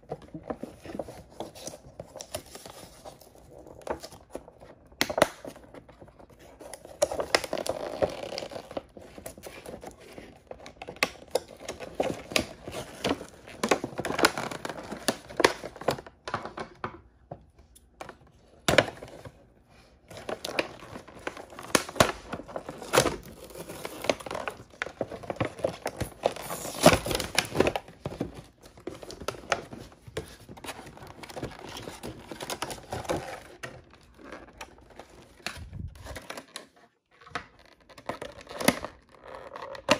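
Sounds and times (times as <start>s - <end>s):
plastic packaging crinkling and tearing: 0.0s - 16.8s, 20.0s - 39.9s.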